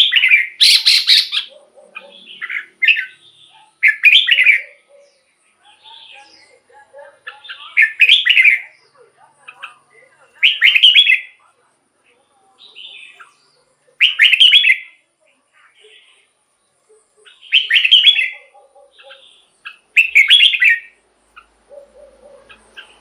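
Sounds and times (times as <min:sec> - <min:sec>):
bird warbling song: 0:00.0 - 0:11.4, 0:12.6 - 0:15.0, 0:16.8 - 0:23.0.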